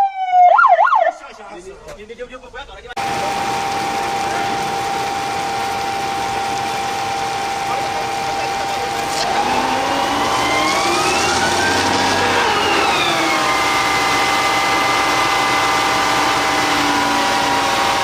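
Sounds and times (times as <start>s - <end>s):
constant whine: 1.0s - 18.0s
fire truck engine revving: 2.9s - 18.0s.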